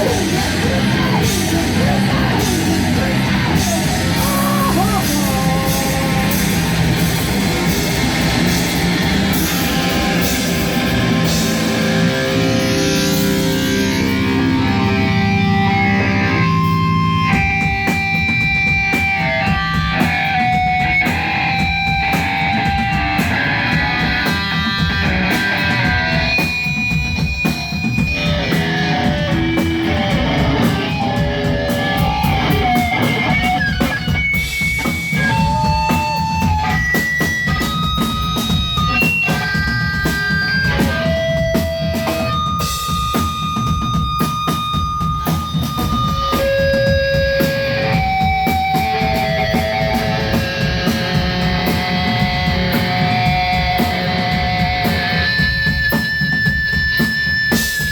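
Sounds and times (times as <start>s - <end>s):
electric guitar melody: 0.0s - 57.9s
steady dense drumming: 0.0s - 57.9s.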